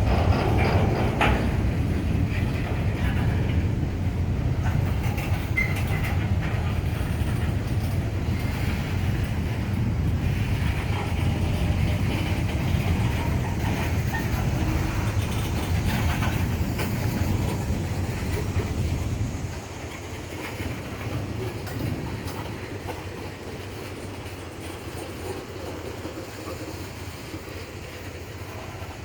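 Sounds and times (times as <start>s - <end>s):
freight train wheels rumbling on rails: 0.0s - 29.0s.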